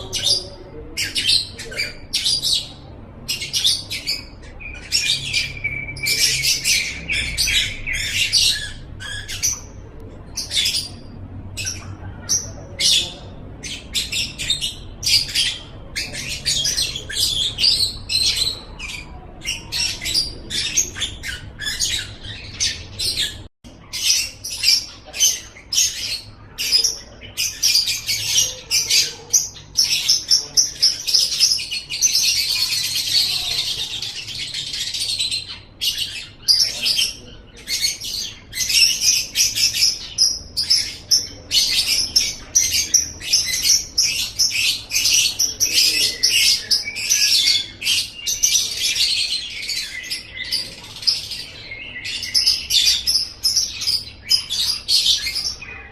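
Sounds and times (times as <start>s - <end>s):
lovebird chirping and trilling: 0.0s - 55.9s.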